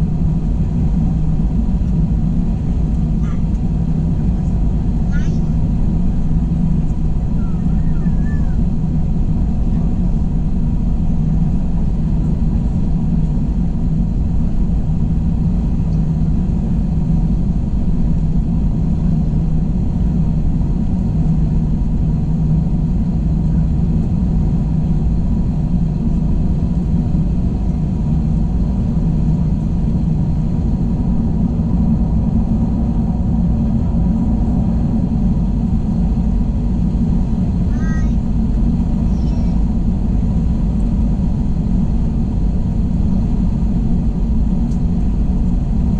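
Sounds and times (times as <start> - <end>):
airliner cabin rumble: 0.0 - 45.9.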